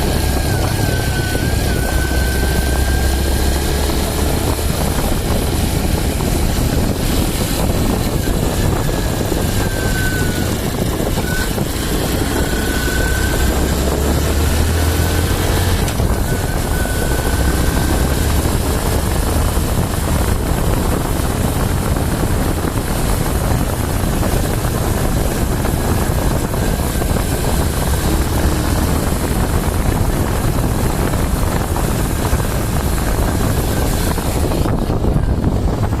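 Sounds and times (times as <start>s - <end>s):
motorcycle engine running: 0.0s - 36.0s
wind on microphone: 0.0s - 36.0s.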